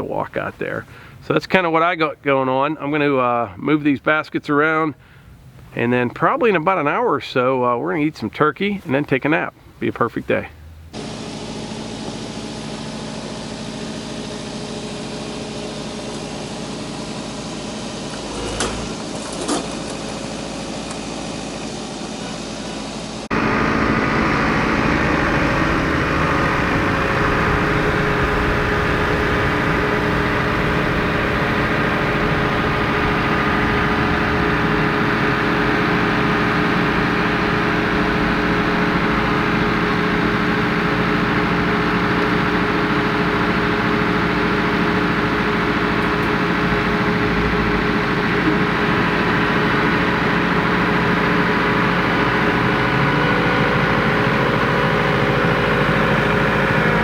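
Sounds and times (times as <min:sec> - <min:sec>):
tractor diesel engine running: 0:09.6 - 0:57.0.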